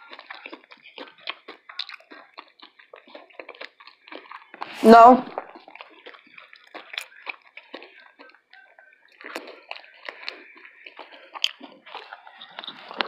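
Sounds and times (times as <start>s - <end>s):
chewing with wet mouth smacks: 0.0s - 13.0s.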